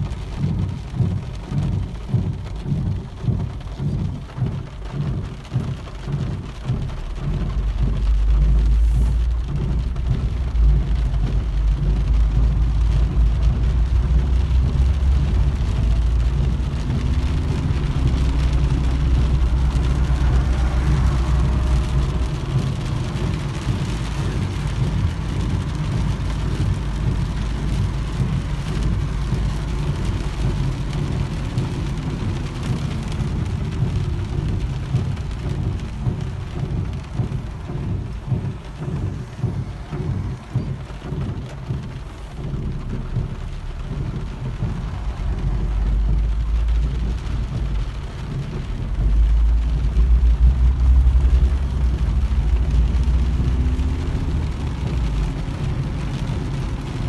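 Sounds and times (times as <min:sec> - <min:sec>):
deep low rumble: 0:00.0 - 0:57.0
heavy rain falling: 0:00.0 - 0:57.0.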